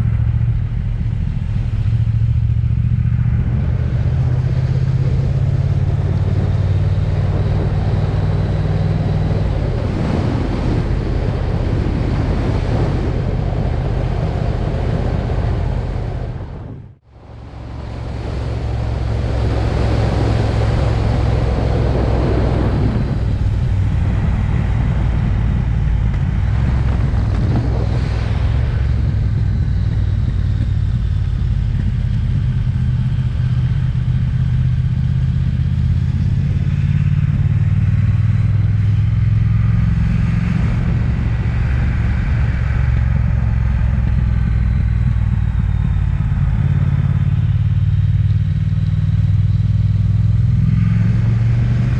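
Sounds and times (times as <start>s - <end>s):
motorcycle engine running: 0.0s - 51.9s
wind noise: 0.0s - 51.9s.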